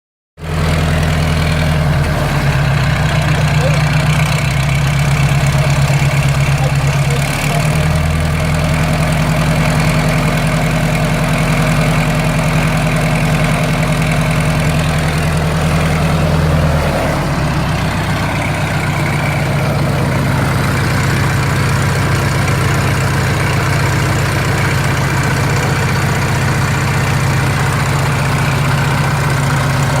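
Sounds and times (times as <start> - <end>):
vehicle engine idling: 0.4 - 30.0.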